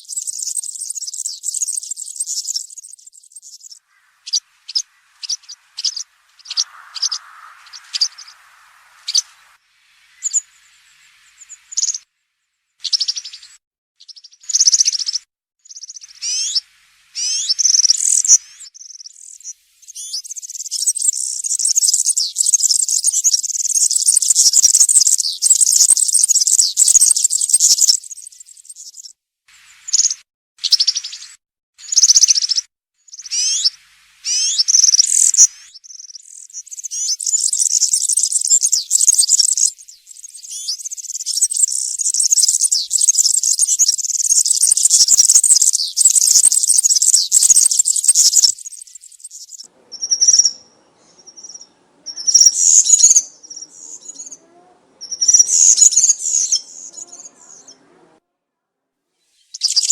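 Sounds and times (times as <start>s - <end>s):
bird singing high chirps: 0.0s - 12.1s, 12.8s - 57.8s, 59.3s - 59.9s.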